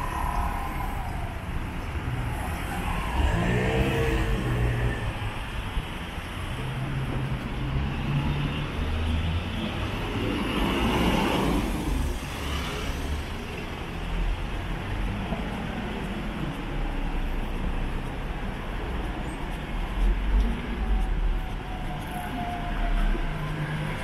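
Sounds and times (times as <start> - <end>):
city road traffic: 0.0 - 24.0.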